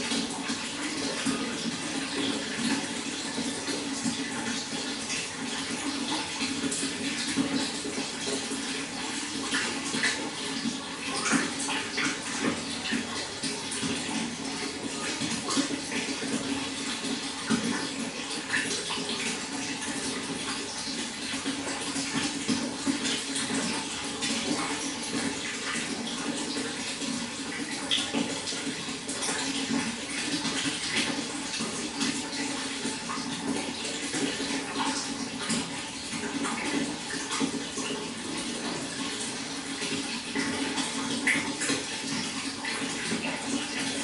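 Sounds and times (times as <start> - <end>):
running water splashing: 0.0 - 44.0.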